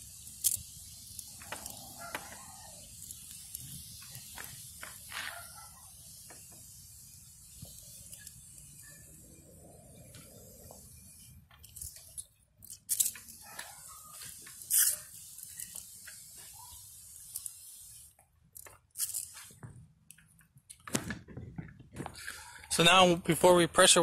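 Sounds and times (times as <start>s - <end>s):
spray bottle squirting: 0.0s - 19.6s.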